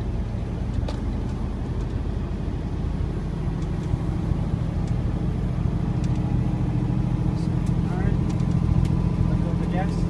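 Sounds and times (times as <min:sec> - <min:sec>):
diesel truck engine drone: 0:00.0 - 0:10.0.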